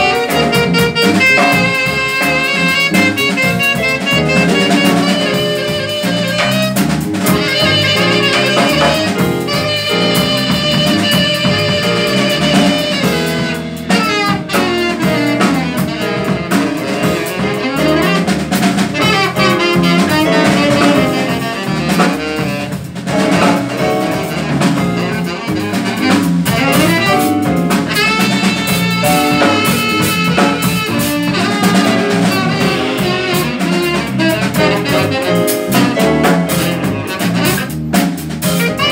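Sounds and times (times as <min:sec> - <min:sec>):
double bass: 0:00.0 - 0:38.9
drum kit with cymbals: 0:00.0 - 0:38.9
piano: 0:00.0 - 0:38.9
saxophone: 0:00.0 - 0:38.9.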